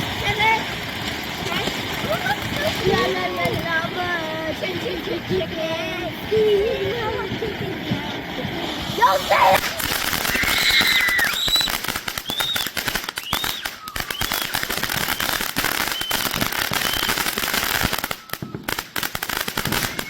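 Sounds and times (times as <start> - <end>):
firework crackling and popping: 0.0 - 20.0
firework whistles: 0.0 - 20.0.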